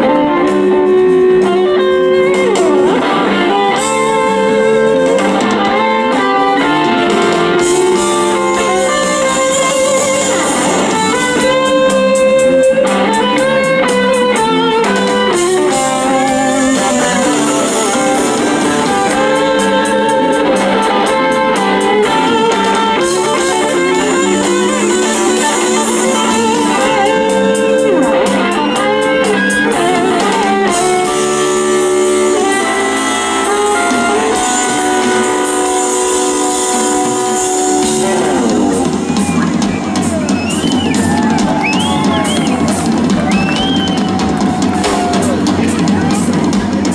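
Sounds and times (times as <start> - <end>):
bass guitar: 0.0 - 46.9
drums: 0.0 - 46.9
electric guitar lead lines: 0.0 - 46.9.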